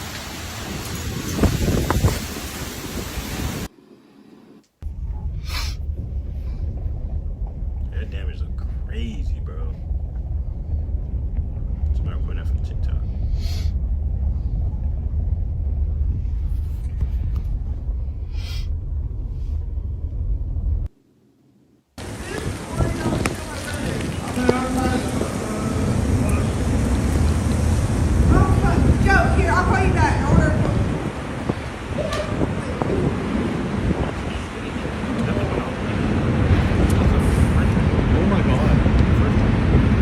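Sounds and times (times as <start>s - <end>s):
strong wind buffeting microphone: 0.0s - 3.7s, 4.8s - 20.9s, 22.0s - 40.0s.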